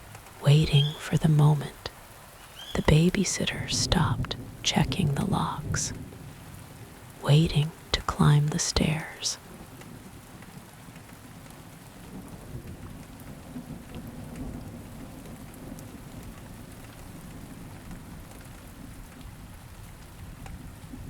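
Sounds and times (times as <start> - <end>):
rain: 0.0 - 21.0.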